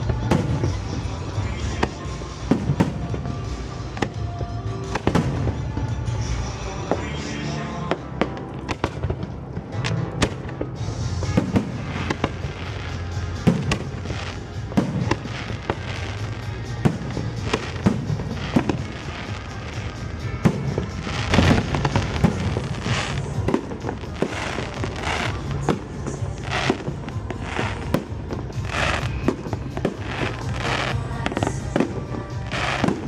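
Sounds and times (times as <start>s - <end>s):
fireworks bangs: 0.0s - 33.0s
music playing: 0.0s - 33.0s.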